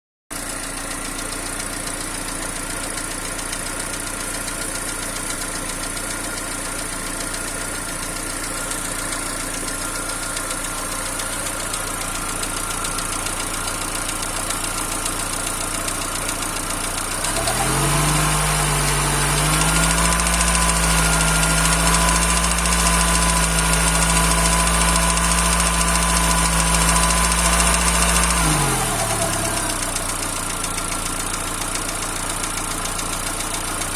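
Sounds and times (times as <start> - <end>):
car engine idling with knock: 0.3 - 33.9
low engine running sound: 0.4 - 33.9.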